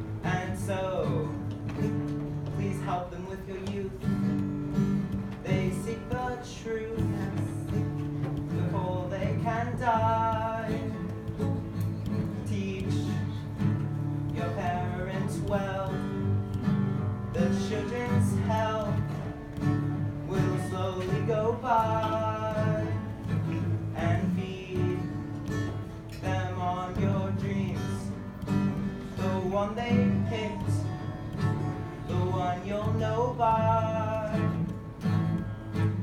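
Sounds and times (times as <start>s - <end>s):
guitar accompaniment: 0.0s - 36.0s.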